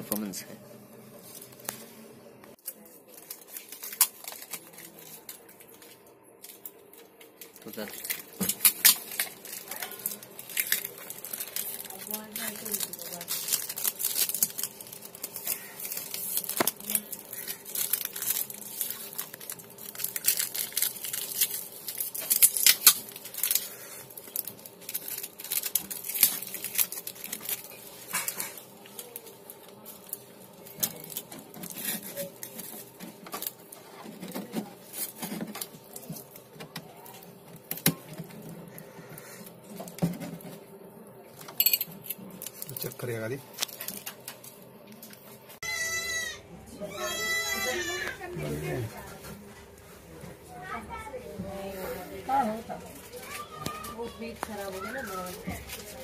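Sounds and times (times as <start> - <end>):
rustling and crinkling of wiring: 1.1 - 45.6, 47.0 - 56.0.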